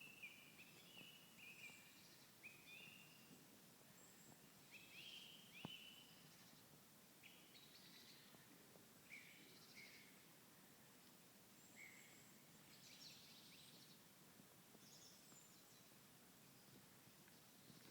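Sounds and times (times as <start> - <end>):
low background hiss: 0.0 - 17.9.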